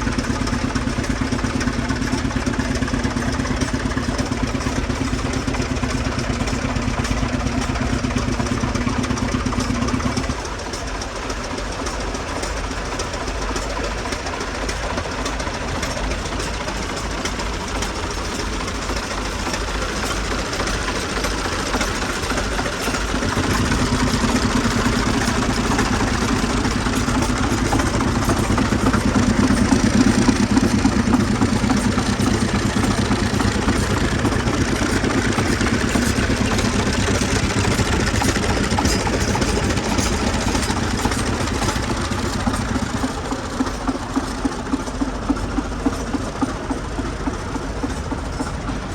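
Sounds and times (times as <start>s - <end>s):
air compressor engine knocking: 0.0s - 48.9s.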